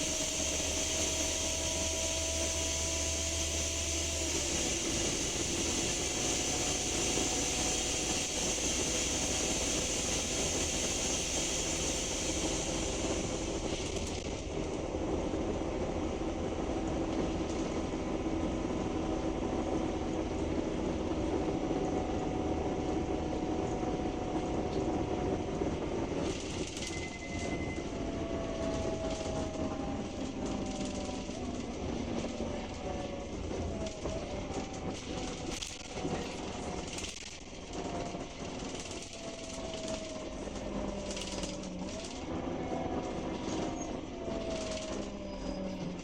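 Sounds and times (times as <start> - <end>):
bus diesel engine running: 0.0 - 46.0
road noise: 0.0 - 46.0.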